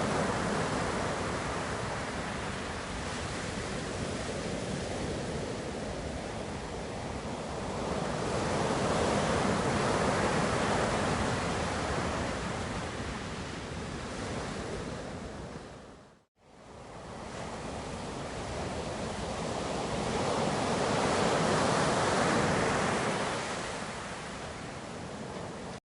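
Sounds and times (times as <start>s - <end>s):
ocean surf washing in: 0.0s - 16.0s, 16.6s - 25.8s.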